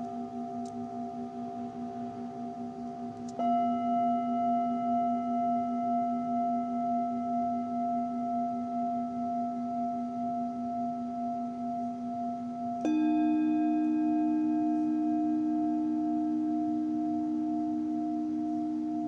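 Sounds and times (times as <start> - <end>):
singing bowl struck: 0.0 - 19.0
singing bowls ringing: 0.0 - 19.0.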